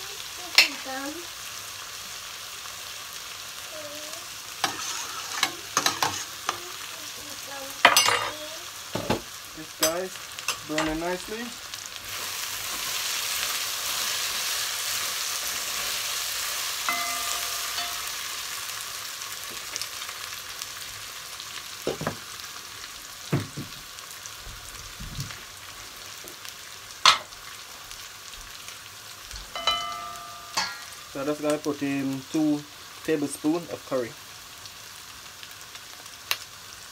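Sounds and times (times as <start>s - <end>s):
vegetables sizzling in hot oil: 0.0s - 36.9s.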